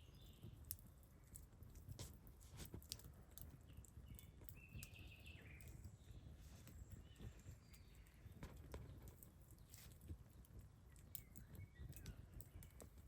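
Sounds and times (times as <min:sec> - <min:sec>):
campfire snaps and pops: 0:00.2 - 0:06.0, 0:06.6 - 0:13.0.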